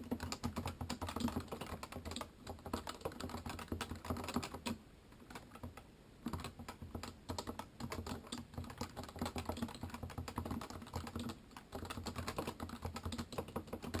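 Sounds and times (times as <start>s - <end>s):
typing on a keyboard: 0.0s - 14.0s.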